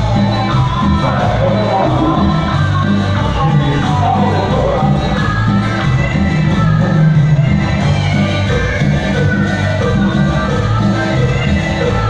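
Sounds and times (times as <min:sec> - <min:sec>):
bass line: 0:00.0 - 0:12.0
live band playing: 0:00.0 - 0:12.0.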